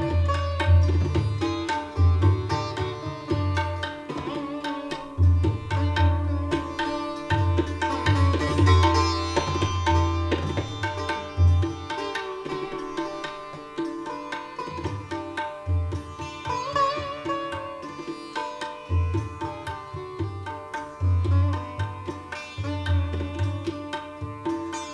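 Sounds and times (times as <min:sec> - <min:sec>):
plucked sitar melody: 0:00.0 - 0:24.9
tabla strokes: 0:00.0 - 0:24.9.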